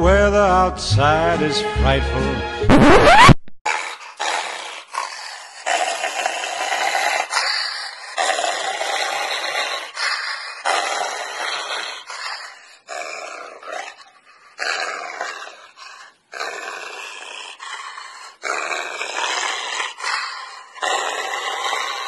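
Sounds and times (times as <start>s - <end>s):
dog growling: 3.7s - 22.0s.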